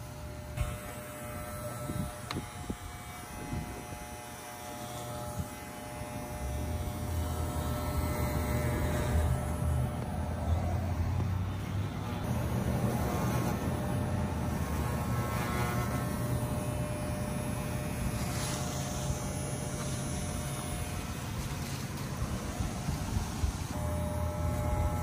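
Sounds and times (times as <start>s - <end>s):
electric dog clippers buzzing: 0.0s - 25.0s.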